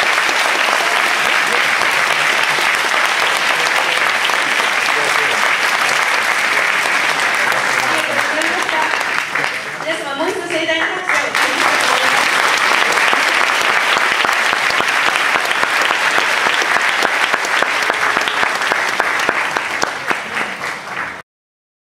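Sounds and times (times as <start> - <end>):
audience applauding: 0.0 - 21.2.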